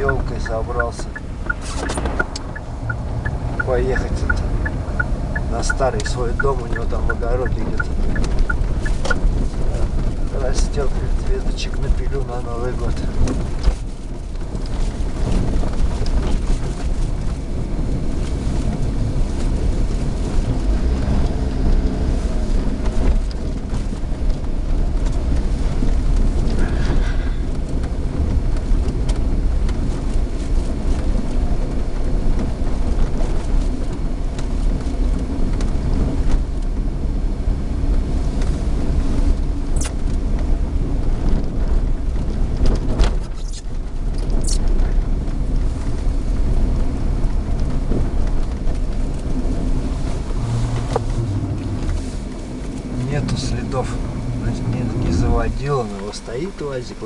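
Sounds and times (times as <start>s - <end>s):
car engine hum: 0.0s - 57.0s
tyre and road rumble: 0.0s - 57.0s.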